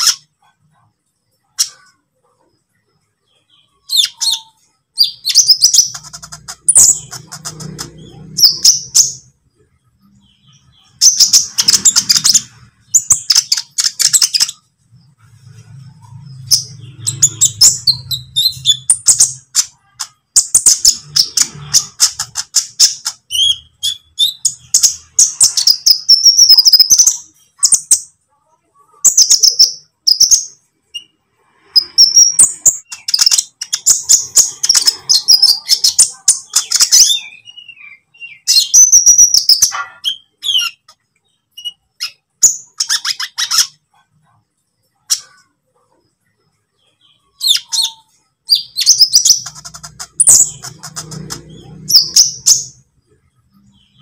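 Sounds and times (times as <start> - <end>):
bird chipping and twittering: 0.0 - 54.0.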